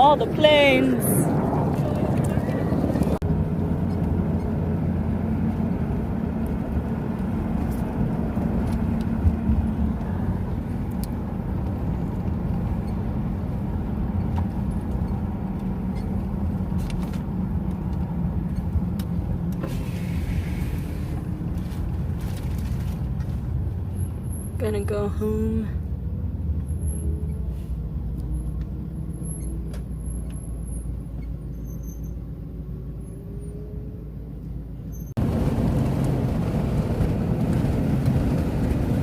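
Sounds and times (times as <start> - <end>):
road vehicle rumbling: 0.0 - 39.0.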